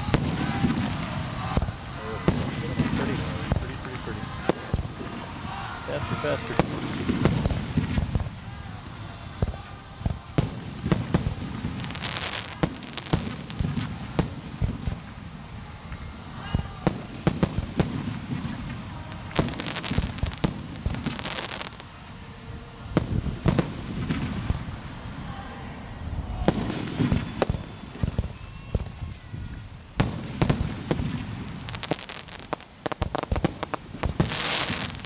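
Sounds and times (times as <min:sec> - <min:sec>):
fireworks booms and cracks: 0:00.0 - 0:21.9, 0:22.9 - 0:25.2, 0:26.2 - 0:35.0
fireworks crackling: 0:00.0 - 0:35.0.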